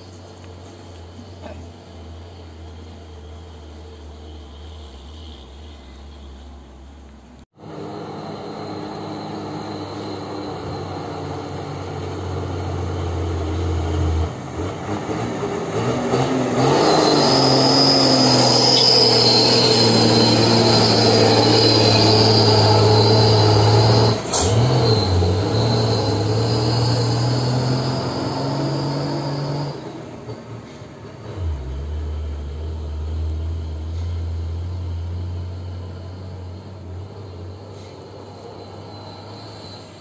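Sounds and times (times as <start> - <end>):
high steady squeal: 0.0 - 40.0
diesel truck engine labouring: 6.6 - 40.0.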